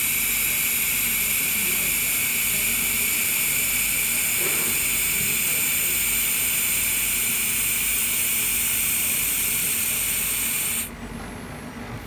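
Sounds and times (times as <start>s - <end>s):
laser welder hissing: 0.0s - 10.9s.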